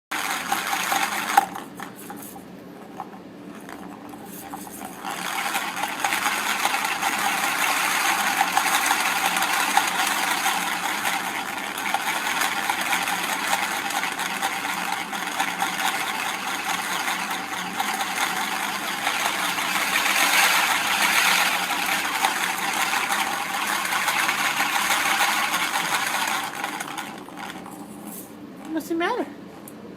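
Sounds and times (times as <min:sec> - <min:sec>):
plastic ball rattling in track: 0:00.1 - 0:28.8.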